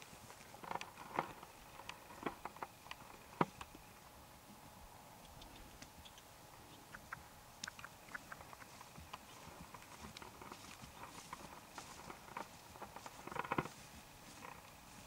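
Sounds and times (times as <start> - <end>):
hoofbeats of horse cantering on grass: 0.0 - 15.0.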